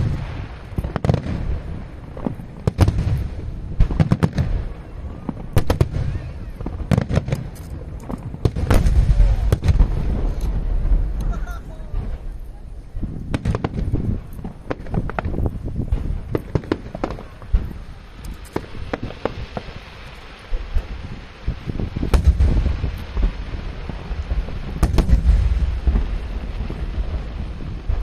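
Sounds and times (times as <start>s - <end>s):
fireworks bursting with sharp bangs: 0.0s - 28.0s
heavy fireworks booms: 0.0s - 28.0s.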